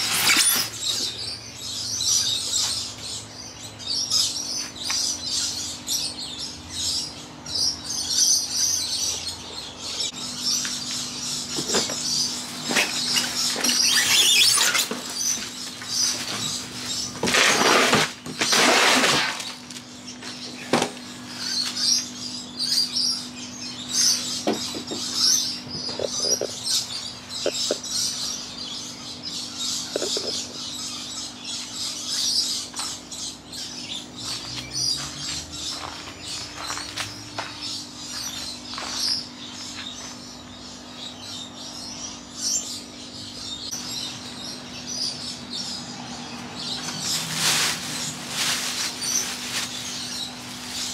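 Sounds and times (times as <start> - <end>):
air conditioner humming: 0.0 - 50.9
birds chirping: 0.0 - 50.9.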